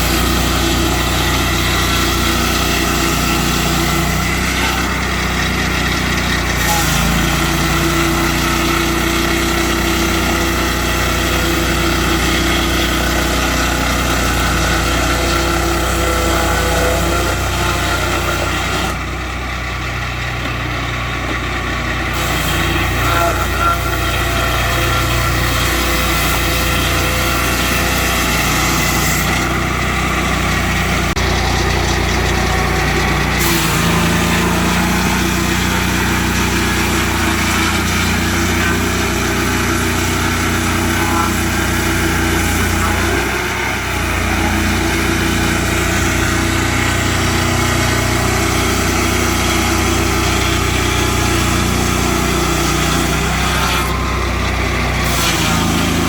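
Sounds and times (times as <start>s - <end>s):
small petrol engine running: 0.0s - 56.0s.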